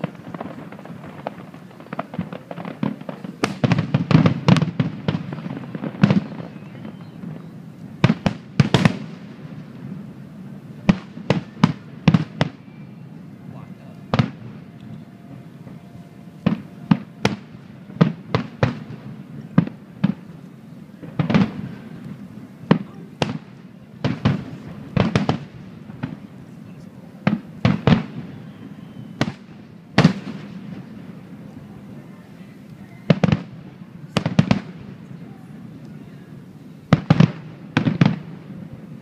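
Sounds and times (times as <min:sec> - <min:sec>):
fireworks bangs: 0:00.0 - 0:39.0
low continuous rumble: 0:00.0 - 0:39.0.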